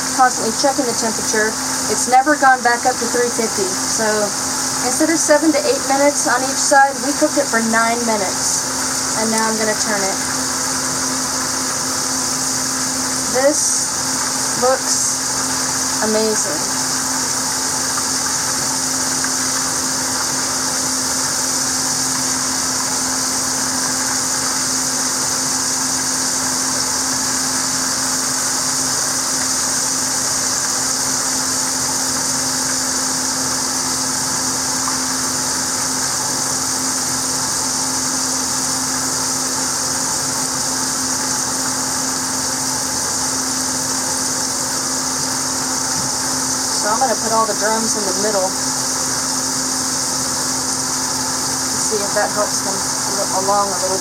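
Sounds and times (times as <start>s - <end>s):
chicken frying in oil: 0.0s - 54.0s
kitchen vent fan humming: 0.0s - 54.0s.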